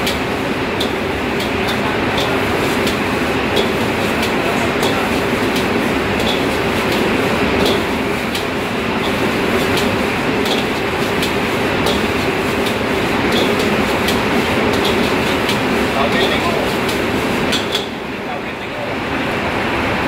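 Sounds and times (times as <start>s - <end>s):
gas burner flame roaring: 0.0s - 20.0s
metal spatula scraping wok: 0.8s - 17.9s.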